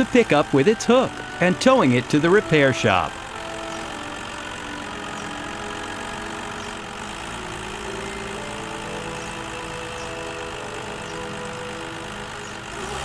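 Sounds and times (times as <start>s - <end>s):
cartoon truck engine running: 0.0s - 13.0s
soft background music: 0.0s - 13.0s.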